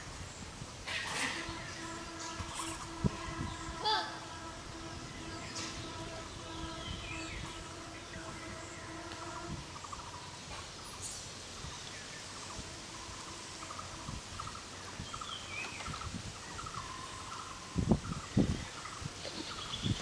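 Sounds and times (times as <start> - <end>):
low steady hum: 0.0 - 17.7
insect chirps: 0.0 - 20.0.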